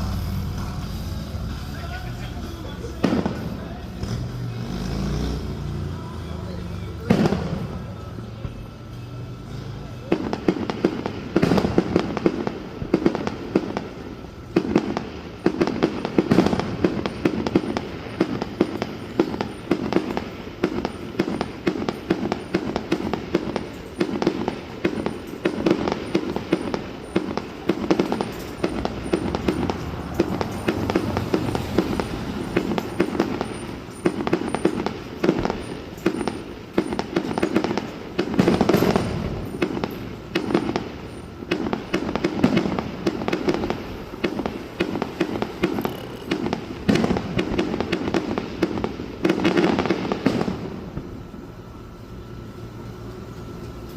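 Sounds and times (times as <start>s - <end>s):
fireworks bangs and crackling pops: 0.0s - 52.4s.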